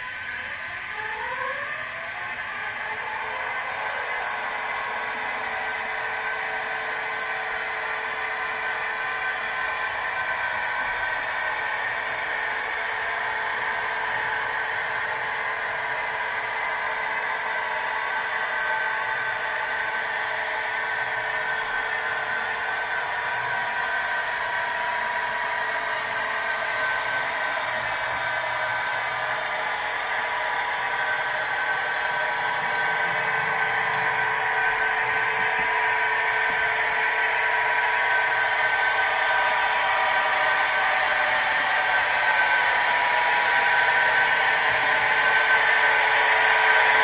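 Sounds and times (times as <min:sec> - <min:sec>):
model train motor whining: 0:00.0 - 0:47.0.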